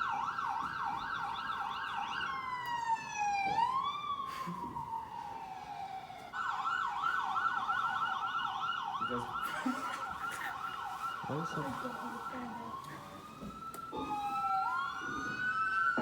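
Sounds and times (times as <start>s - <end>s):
emergency siren yelp and wail: 0.0s - 16.0s.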